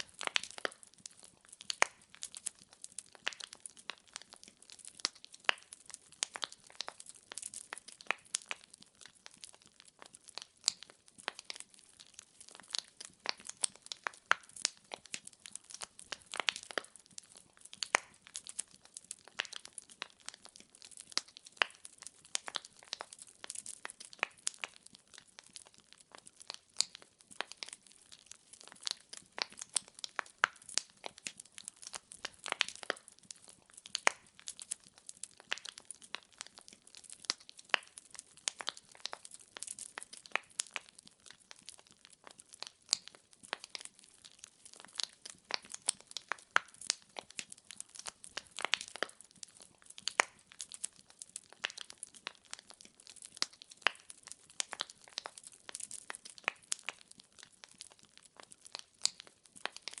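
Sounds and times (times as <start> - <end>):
firewood crackling: 0.0 - 60.0.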